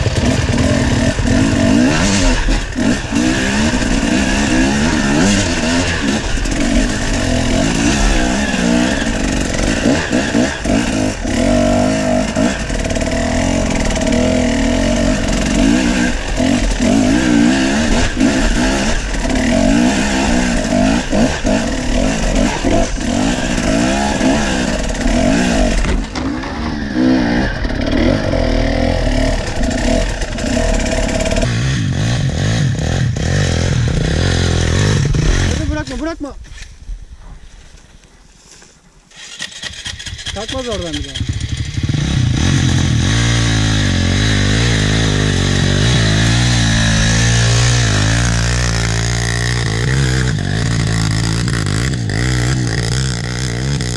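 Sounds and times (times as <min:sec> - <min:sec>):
dirt bike engine revving: 0:00.0 - 0:36.2, 0:39.1 - 0:53.9.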